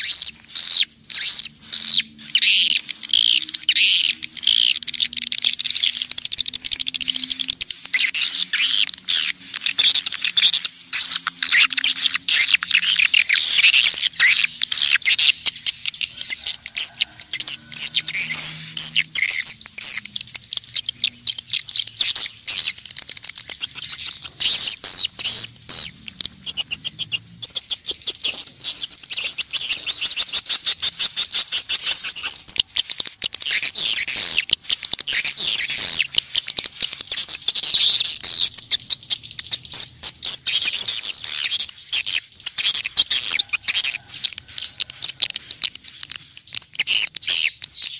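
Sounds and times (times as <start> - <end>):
swiftlets twittering: 0.0 - 47.9.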